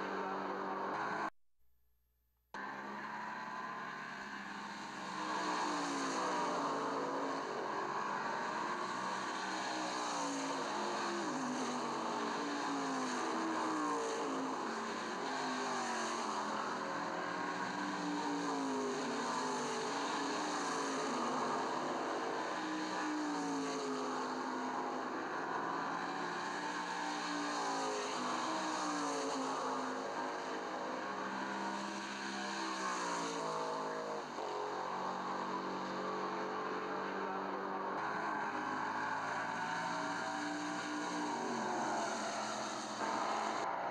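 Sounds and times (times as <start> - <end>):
racing car engines accelerating: 2.6 - 43.9.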